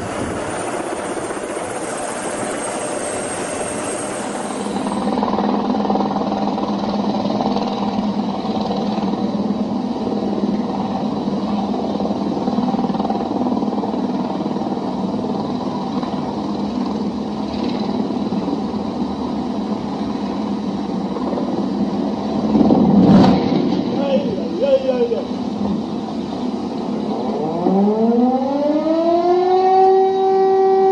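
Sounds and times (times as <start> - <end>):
helicopter hovering: 0.0 - 30.9
propeller plane taxiing: 0.0 - 30.9.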